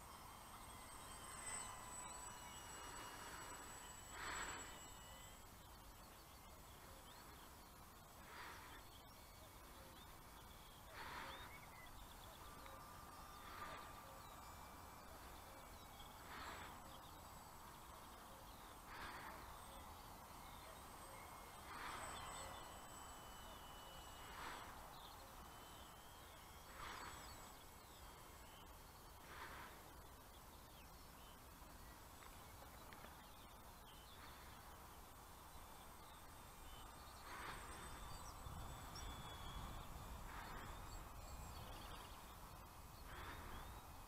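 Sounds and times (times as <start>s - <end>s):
faint chirping: 0.0s - 44.0s
high-pitched whine: 0.0s - 44.0s.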